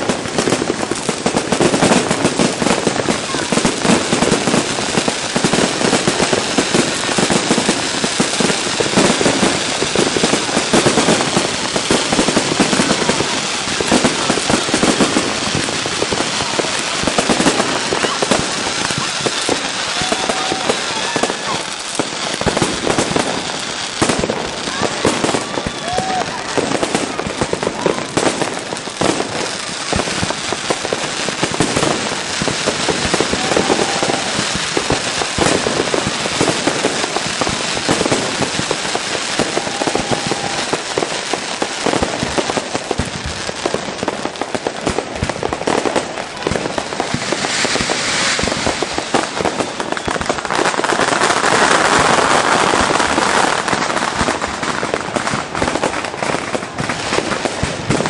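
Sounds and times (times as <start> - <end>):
fireworks crackles and bangs: 0.0 - 58.0.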